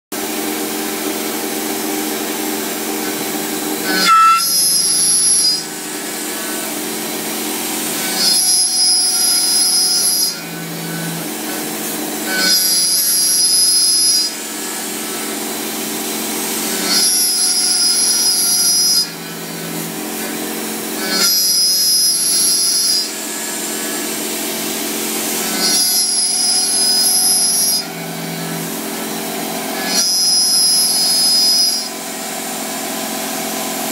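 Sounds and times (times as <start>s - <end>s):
milling machine cutting metal: 0.2s - 33.9s.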